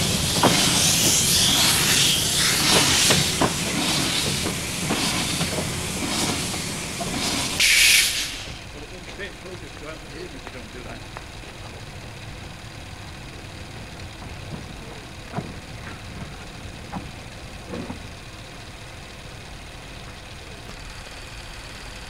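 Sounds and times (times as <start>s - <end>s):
steam locomotive rumble and hiss: 0.0s - 22.0s.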